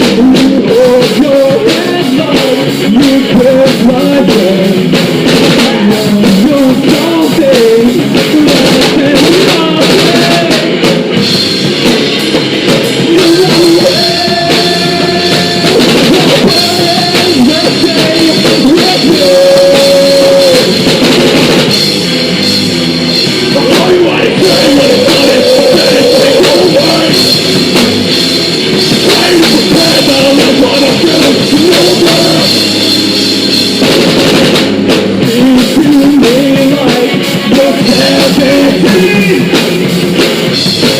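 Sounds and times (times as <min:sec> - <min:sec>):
bass guitar: 0:00.0 - 0:40.9
drum kit: 0:00.0 - 0:40.9
electric guitars: 0:00.0 - 0:40.9.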